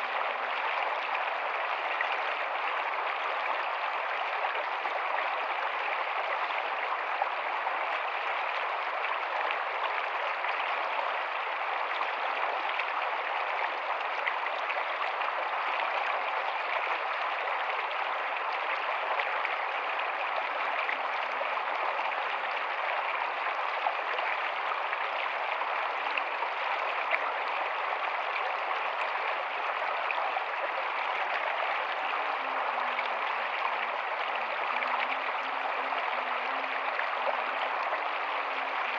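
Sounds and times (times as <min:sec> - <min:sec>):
faint low gurgles: 0:00.0 - 0:38.9
stream rushing over stones: 0:07.0 - 0:38.9.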